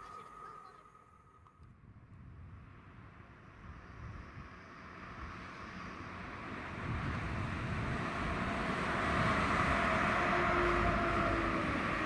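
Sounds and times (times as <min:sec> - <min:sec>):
train engine and wheels rushing: 0:00.0 - 0:12.0.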